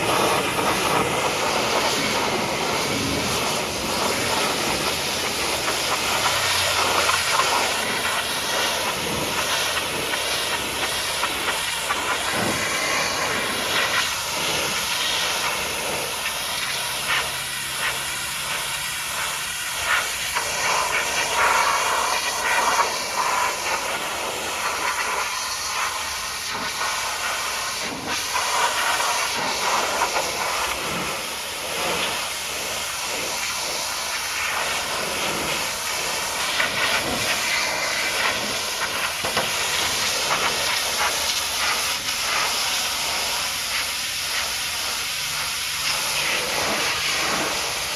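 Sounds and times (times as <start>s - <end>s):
high-pressure water jet hissing: 0.0s - 47.9s.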